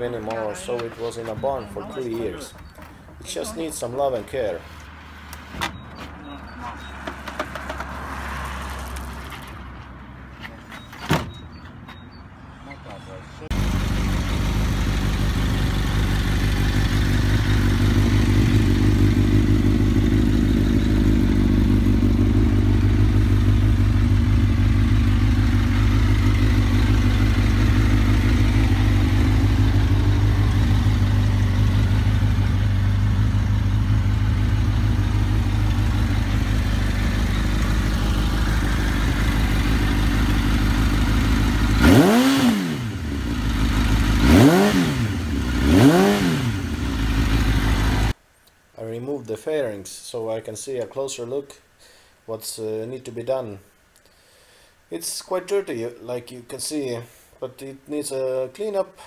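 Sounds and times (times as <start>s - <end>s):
motorcycle engine idling and revving: 0.0s - 48.2s.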